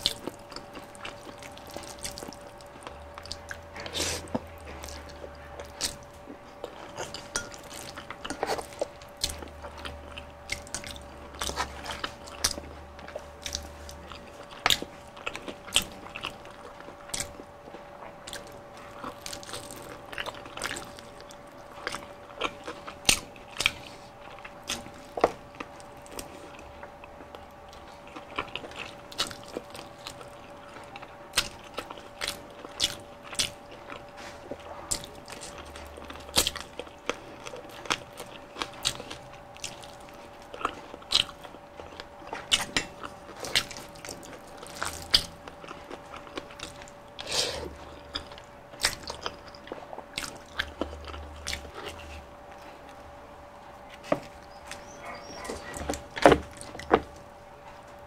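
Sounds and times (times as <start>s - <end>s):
biting and chewing crispy chicken: 0.0s - 58.0s
faint steady hum: 0.0s - 58.0s.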